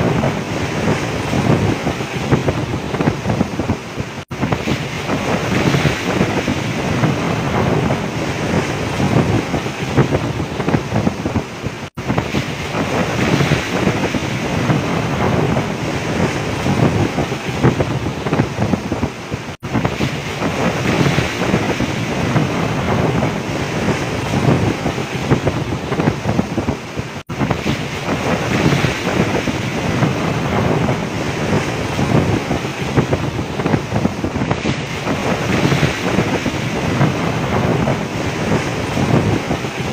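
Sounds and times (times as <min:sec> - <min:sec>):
waves crashing: 0:00.0 - 0:39.9
wind buffeting microphone: 0:00.0 - 0:39.9.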